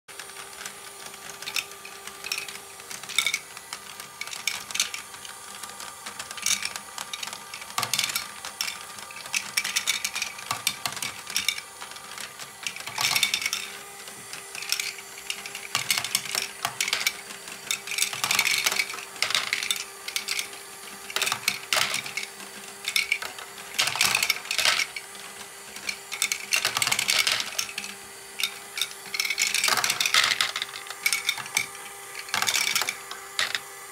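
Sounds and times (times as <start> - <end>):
gear train humming: 0.1 - 33.9
plastic balls clattering: 0.2 - 33.9.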